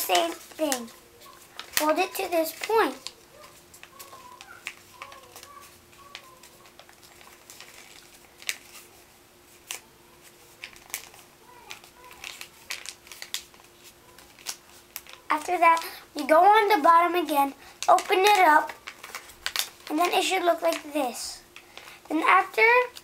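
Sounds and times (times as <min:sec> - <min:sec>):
faint steady hum: 0:00.0 - 0:23.0
paper rustling and crinkling: 0:00.0 - 0:23.0.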